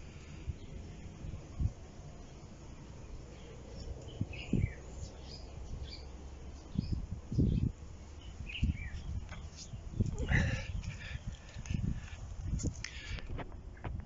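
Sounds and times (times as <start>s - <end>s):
small birds chirping: 0.0s - 13.3s.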